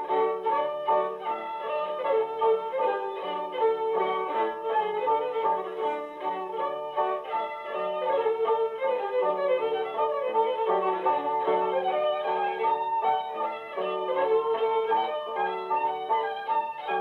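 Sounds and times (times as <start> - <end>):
fiddle playing a tune: 0.0 - 17.0.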